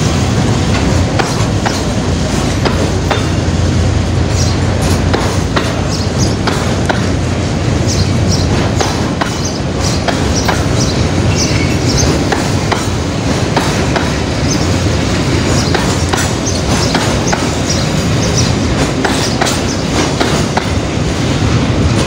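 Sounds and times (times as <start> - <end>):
wheels clacking over rail joints: 0.0 - 3.6, 4.2 - 22.0
train wheels rumbling on rail: 0.0 - 22.0.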